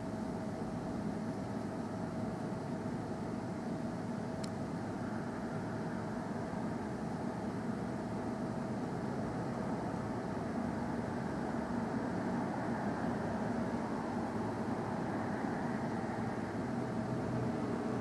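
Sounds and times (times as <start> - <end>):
background rumble and hiss: 0.0 - 18.0
faint steady hum: 0.0 - 18.0.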